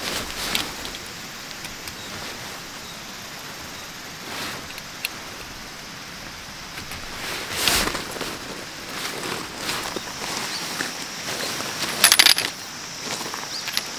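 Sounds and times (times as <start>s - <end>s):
steady hiss: 0.0s - 13.9s
tent fabric rustling: 0.0s - 13.9s.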